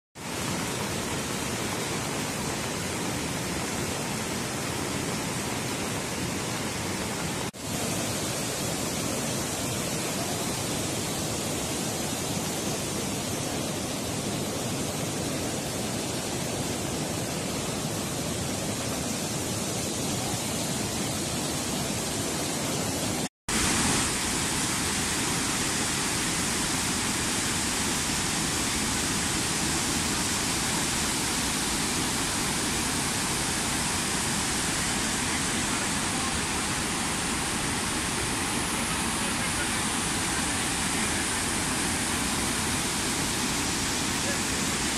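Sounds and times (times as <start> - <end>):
river rushing in a torrent: 0.2 - 44.9.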